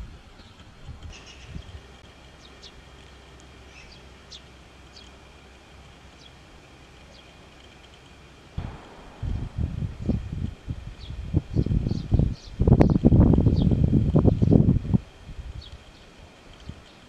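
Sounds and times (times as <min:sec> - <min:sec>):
faint low hum: 0:00.0 - 0:17.0
small birds chirping: 0:00.3 - 0:14.9, 0:15.5 - 0:17.0.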